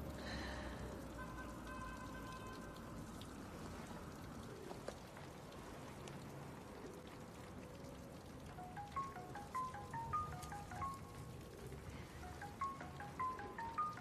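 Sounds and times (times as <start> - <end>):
light rain patter: 0.0 - 14.0
water drips: 0.0 - 14.0.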